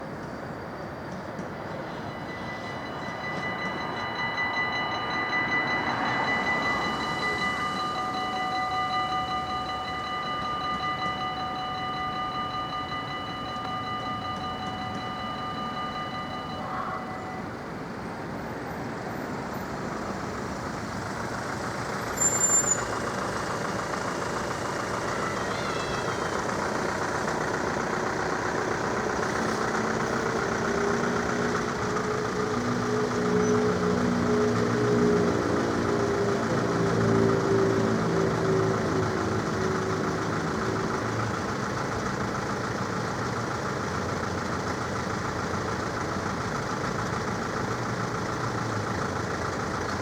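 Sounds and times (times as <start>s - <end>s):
level-crossing warning bells: 0.0s - 50.0s
train approaching: 0.0s - 50.0s.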